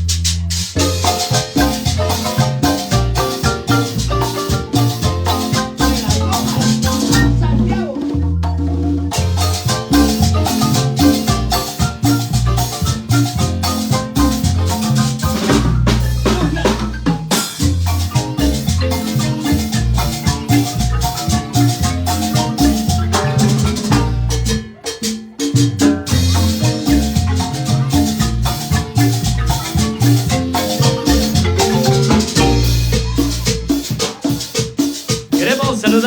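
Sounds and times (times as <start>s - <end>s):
marimba band playing dance music: 0.0s - 36.0s.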